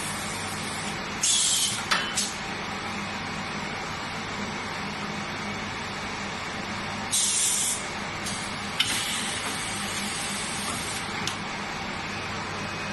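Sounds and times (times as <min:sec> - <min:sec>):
machine humming steadily: 0:00.0 - 0:12.9.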